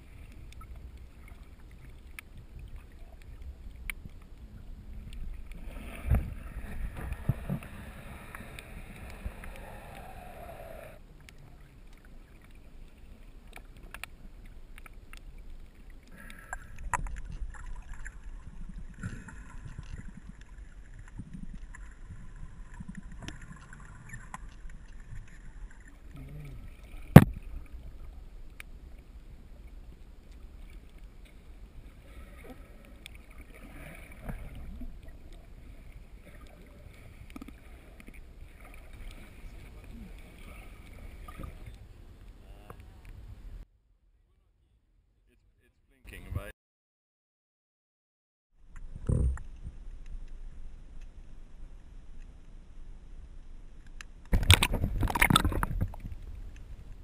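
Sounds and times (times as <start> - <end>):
underwater rumble of moving water: 0.0 - 43.6, 48.6 - 57.0.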